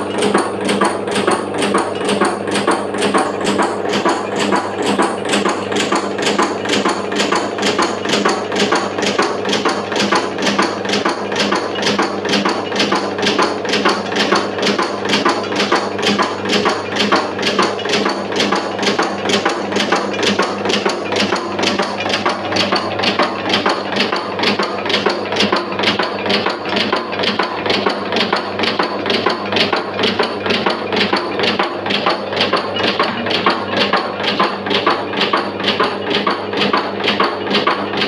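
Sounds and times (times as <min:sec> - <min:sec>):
steady motor hum: 0:00.0 - 0:38.0.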